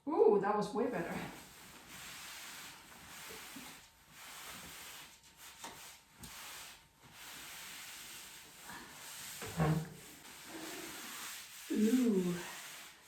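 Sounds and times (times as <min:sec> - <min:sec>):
soft rubbing strokes on wall: 0:00.8 - 0:13.0.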